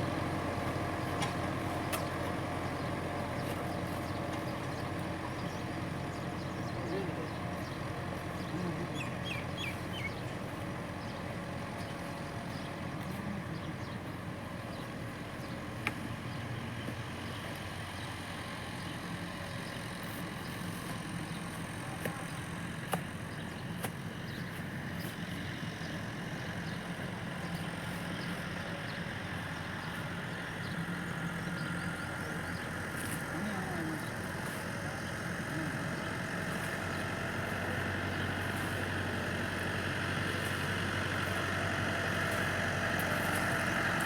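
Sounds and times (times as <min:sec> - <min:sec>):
tractor engine idling: 0:00.0 - 0:44.0.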